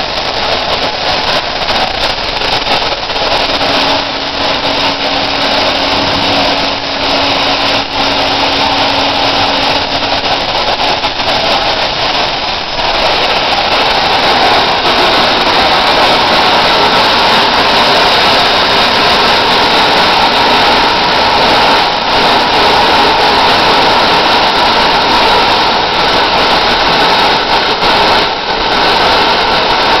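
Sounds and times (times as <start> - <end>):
jet engine rushing with whine: 0.0 - 30.0.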